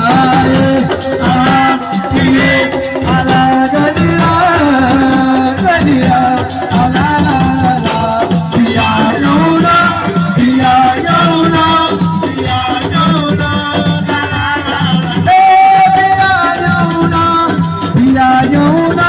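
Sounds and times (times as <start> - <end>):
person singing: 0.0 - 19.0
steady drum rhythm: 0.0 - 19.0.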